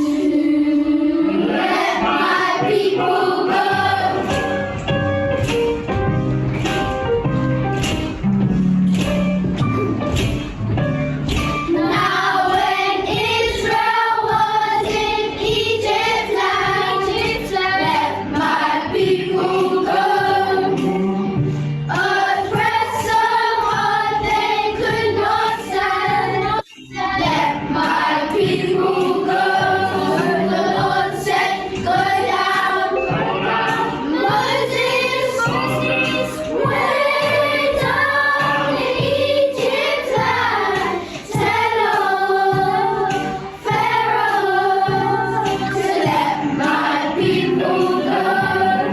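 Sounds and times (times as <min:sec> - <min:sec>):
children singing with backing music: 0:00.0 - 0:48.9.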